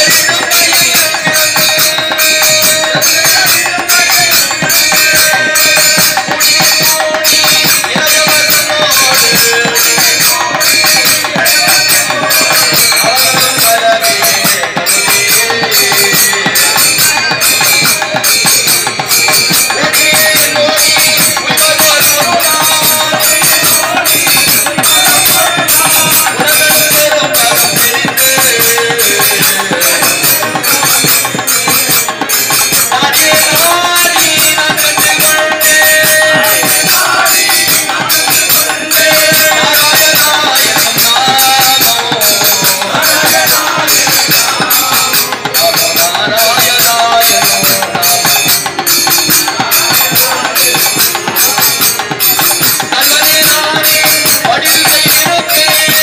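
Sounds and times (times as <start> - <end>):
jingling percussion beat: 0.0 - 56.0
voices singing a chant: 0.0 - 56.0.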